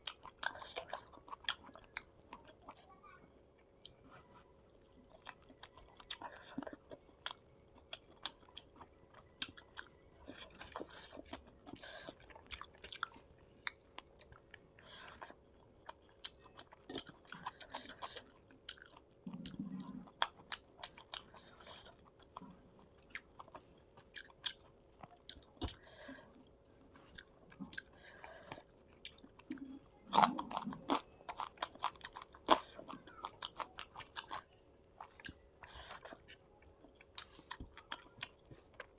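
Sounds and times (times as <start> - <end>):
chewing and crunching fried fish: 0.0 - 38.9
faint steady hum: 0.0 - 38.9.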